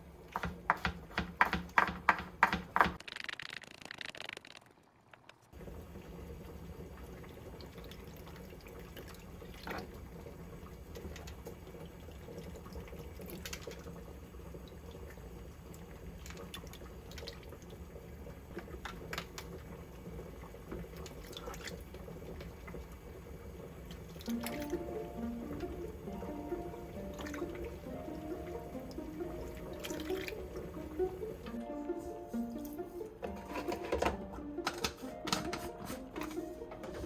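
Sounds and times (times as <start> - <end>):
water running into sink: 5.5 - 37.0.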